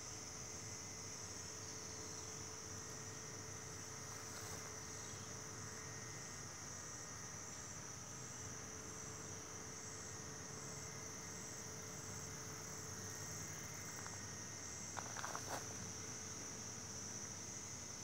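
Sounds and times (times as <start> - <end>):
crickets trilling: 0.0 - 18.0
faint pulsing insect call: 0.0 - 18.0.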